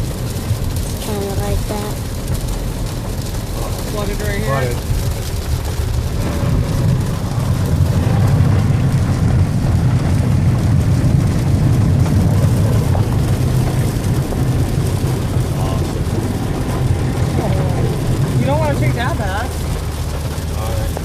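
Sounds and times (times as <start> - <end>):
car driving heard from inside: 0.0 - 21.0.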